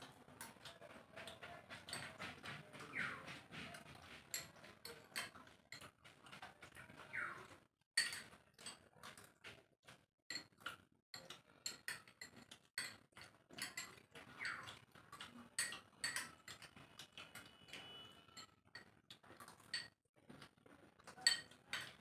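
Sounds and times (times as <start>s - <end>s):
metal spoons scraping bowls: 0.1s - 9.4s, 10.3s - 22.0s.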